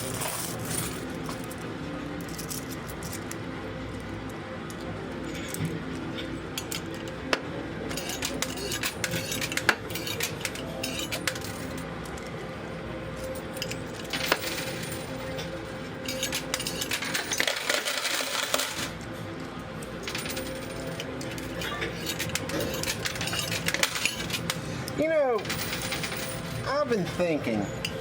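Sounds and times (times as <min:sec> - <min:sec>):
coins clinking and tumbling: 0:00.0 - 0:04.2, 0:05.1 - 0:12.3, 0:13.2 - 0:28.0.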